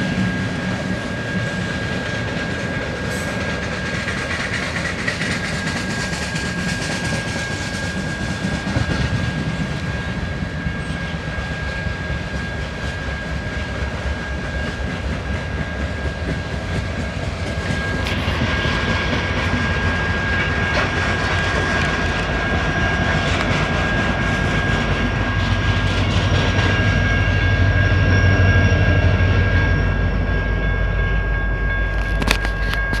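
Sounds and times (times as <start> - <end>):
continuous high-pitched tone: 0.0 - 33.0
freight train rumbling past: 0.0 - 33.0.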